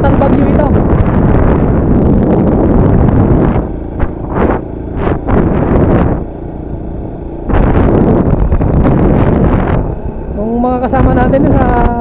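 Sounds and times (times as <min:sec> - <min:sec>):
vehicle engine rumble: 0:00.0 - 0:12.0
wind buffeting microphone: 0:00.0 - 0:12.0.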